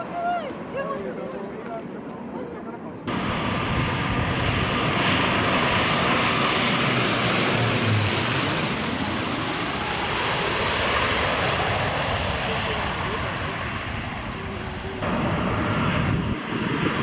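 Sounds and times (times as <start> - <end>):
airliner passing low overhead: 0.0 - 17.0.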